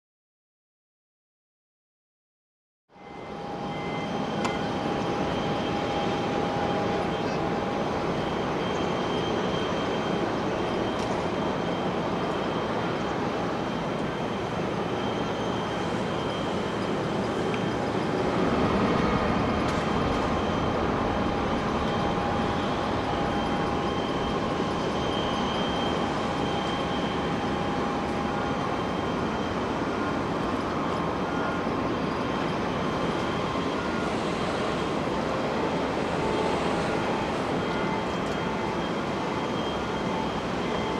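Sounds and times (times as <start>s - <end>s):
jet engines running: 3.0s - 40.9s.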